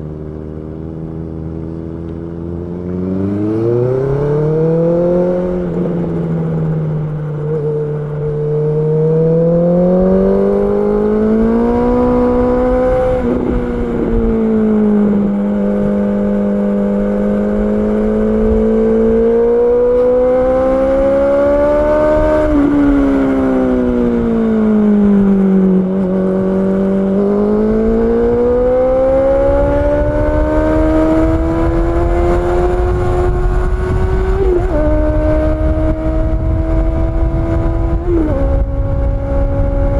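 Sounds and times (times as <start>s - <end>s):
motorcycle engine revving under load: 0.0s - 39.9s.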